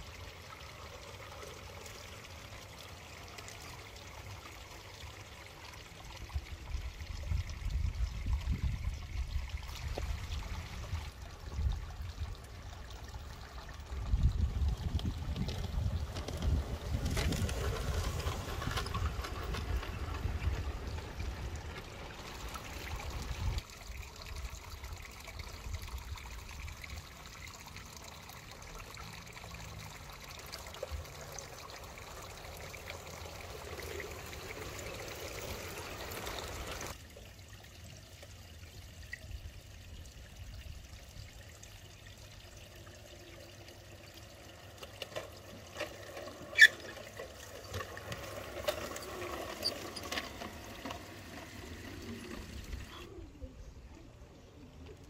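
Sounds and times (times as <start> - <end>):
water trickling into pond: 0.0 - 55.0.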